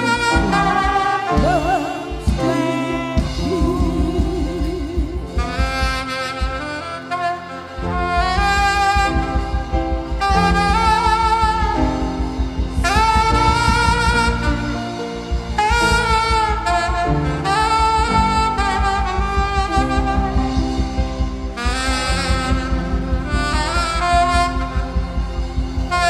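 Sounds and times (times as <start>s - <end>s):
instrumental band music: 0.0s - 26.0s.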